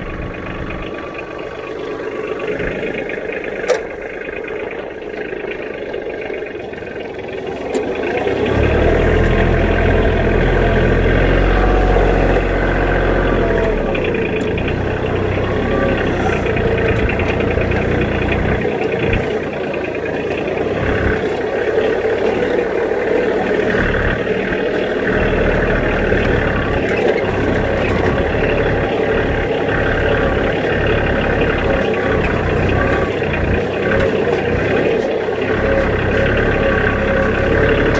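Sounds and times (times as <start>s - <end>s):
diesel tractor engine running: 0.0s - 37.9s
scattered clatter: 0.0s - 37.9s.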